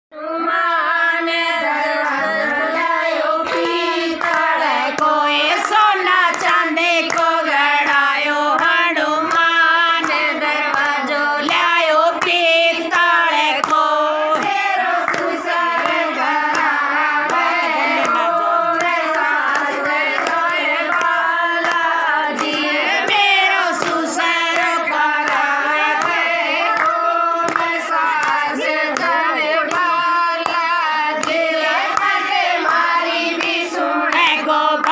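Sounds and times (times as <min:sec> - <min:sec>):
women singing devotional song: 0:00.1 - 0:34.9
hand clapping: 0:02.0 - 0:34.9.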